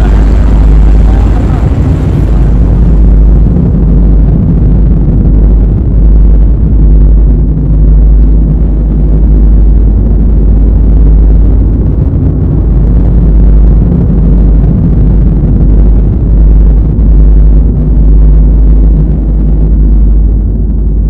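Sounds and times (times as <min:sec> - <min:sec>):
wind buffeting camera microphone: 0:00.0 - 0:21.0.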